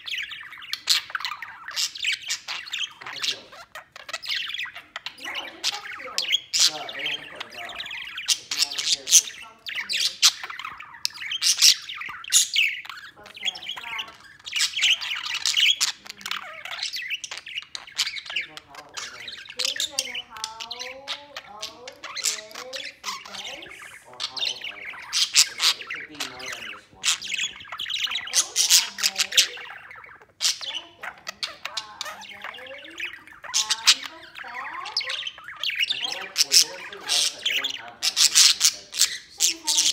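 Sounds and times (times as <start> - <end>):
budgerigar warbling and chattering: 0.0 - 39.9.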